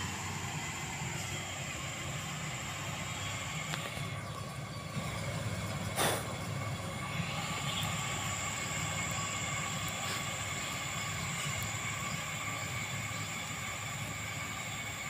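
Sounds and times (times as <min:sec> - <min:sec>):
engine rumbling: 0:00.0 - 0:15.0
faint engine whine: 0:00.0 - 0:15.0.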